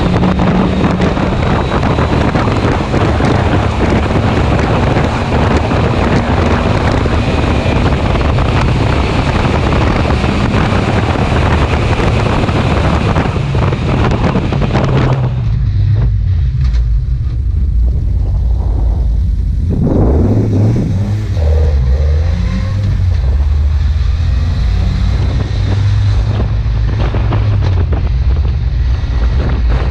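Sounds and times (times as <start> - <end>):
car engine running: 0.0 - 29.9
wind rush on microphone: 0.0 - 29.9.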